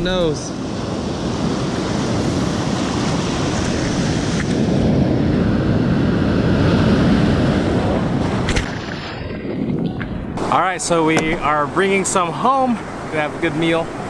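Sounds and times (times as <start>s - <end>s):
surf washing up beach: 0.0s - 9.4s, 10.4s - 14.0s
wind on microphone: 0.0s - 11.8s.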